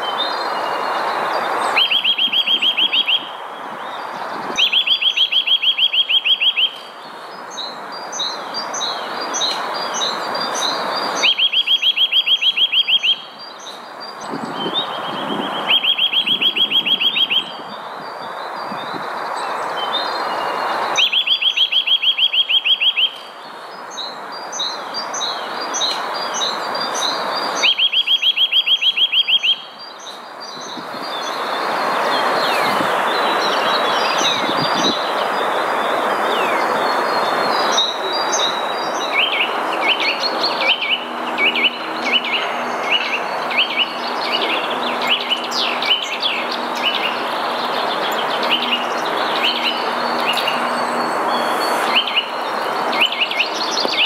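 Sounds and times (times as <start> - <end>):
birds chirping softly: 0.0 - 54.0
songbird rapid trill: 0.0 - 54.0.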